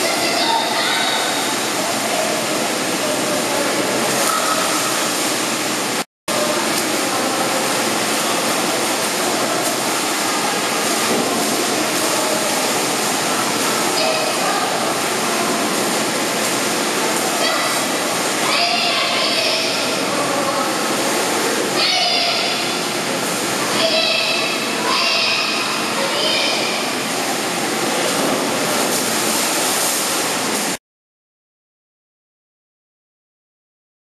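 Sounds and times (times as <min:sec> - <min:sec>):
splashing water: 0:00.0 - 0:30.8.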